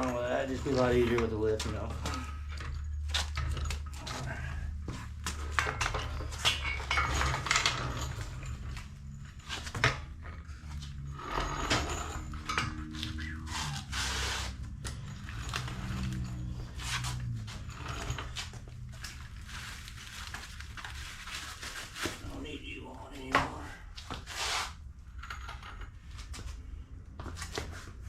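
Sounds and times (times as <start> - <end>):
metal tools clinking: 0.0 - 23.6.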